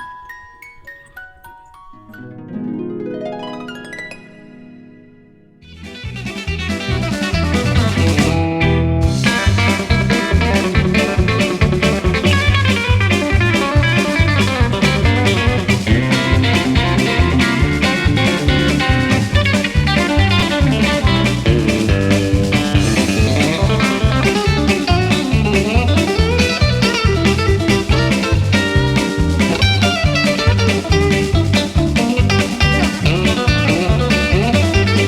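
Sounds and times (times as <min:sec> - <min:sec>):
blues guitar: 0:02.2 - 0:35.0
steady drum beat: 0:05.8 - 0:35.0.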